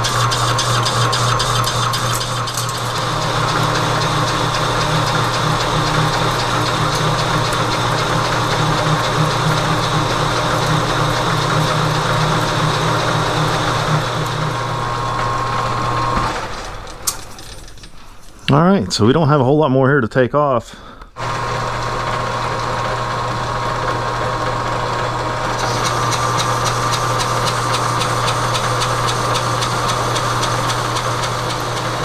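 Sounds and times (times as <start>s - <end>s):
metal lathe running: 0.0s - 17.1s, 21.2s - 32.0s
lathe winding down: 0.0s - 17.2s, 21.2s - 32.0s.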